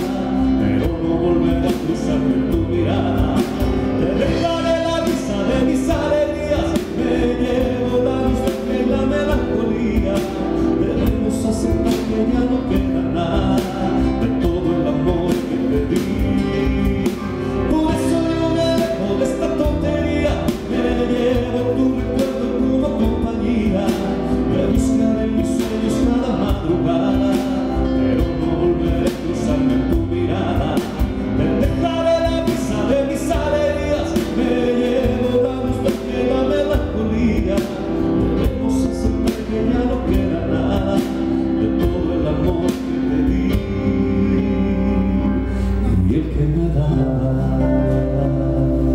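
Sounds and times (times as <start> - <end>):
live band with piano: 0.0 - 48.9
man singing: 0.0 - 48.9.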